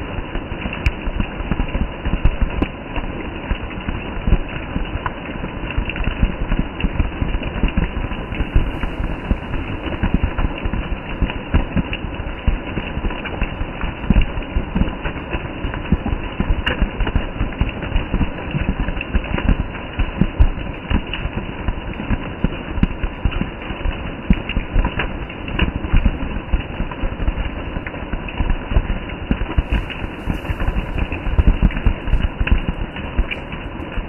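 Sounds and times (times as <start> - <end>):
heavy rain on leaves: 0.1 - 34.0.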